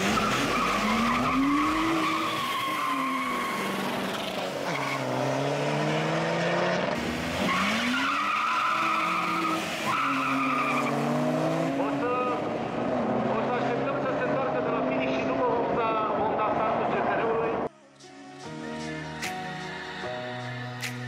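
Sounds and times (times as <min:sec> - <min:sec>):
car engines revving: 0:00.0 - 0:17.7.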